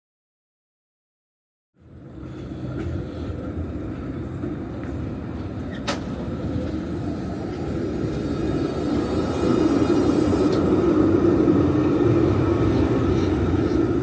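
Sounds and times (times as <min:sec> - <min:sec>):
tram rumbling on track: 0:01.8 - 0:14.0.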